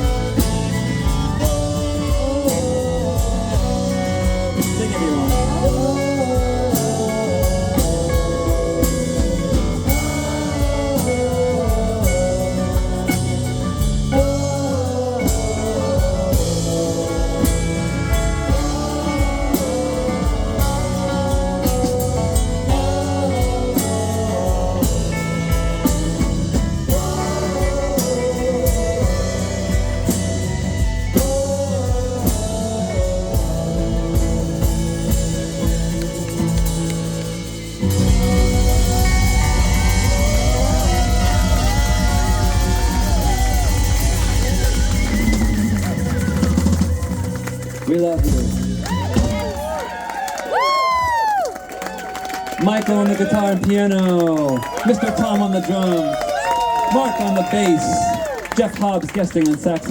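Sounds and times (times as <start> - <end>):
wavering lead melody: 0.0 - 49.8
drum kit beat: 0.0 - 59.9
guitar and bass: 0.0 - 59.9.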